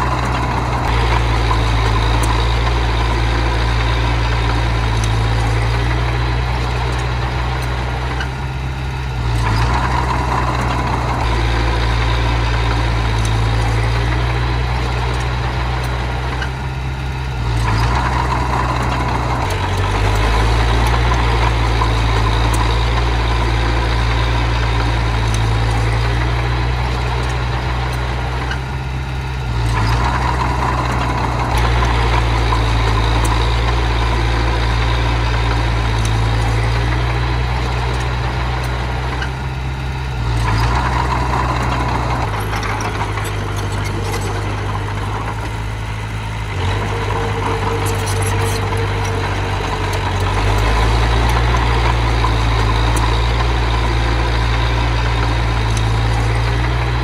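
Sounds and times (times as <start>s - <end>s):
earthmoving machine engine humming: 0.0s - 57.0s.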